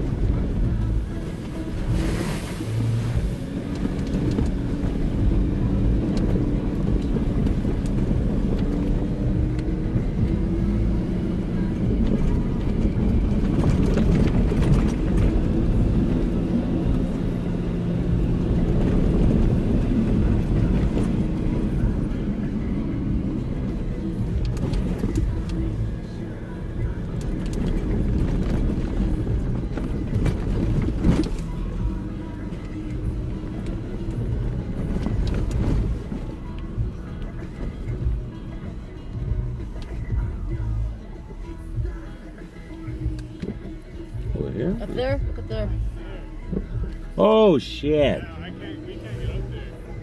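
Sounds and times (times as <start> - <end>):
tyre and trail rumble: 0.0 - 47.1
car engine: 0.0 - 50.0.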